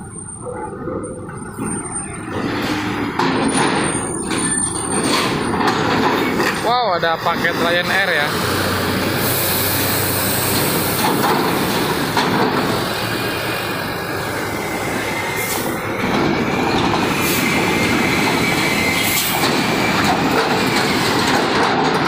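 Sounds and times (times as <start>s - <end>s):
diesel engines: 0.0s - 22.0s
wheels clanking on plates: 0.0s - 22.0s
truck tyres clattering on steel: 0.2s - 22.0s.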